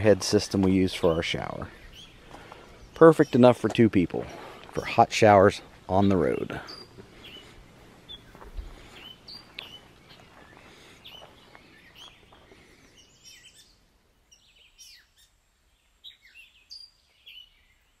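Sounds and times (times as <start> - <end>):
songbirds chirping and singing: 0.0 - 18.0.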